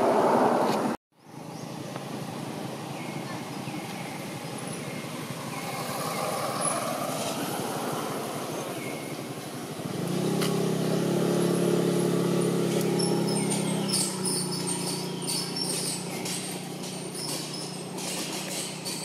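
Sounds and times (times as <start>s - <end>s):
engine running close by: 0.0s - 19.0s
traffic rumble: 0.0s - 19.0s.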